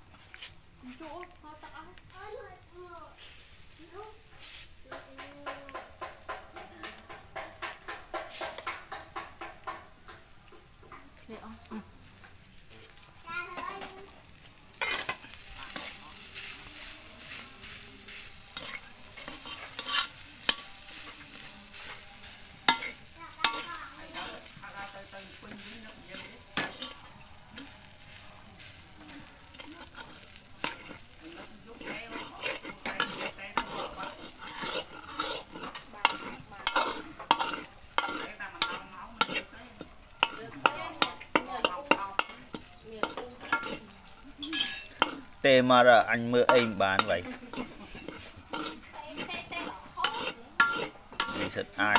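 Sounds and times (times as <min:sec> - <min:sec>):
frying sizzle: 0:00.0 - 0:51.9
spatula scraping wok: 0:00.0 - 0:51.9.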